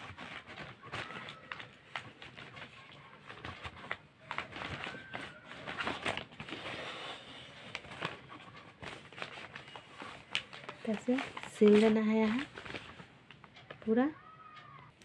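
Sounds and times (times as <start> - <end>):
newspaper rustling and crinkling: 0.0 - 14.6.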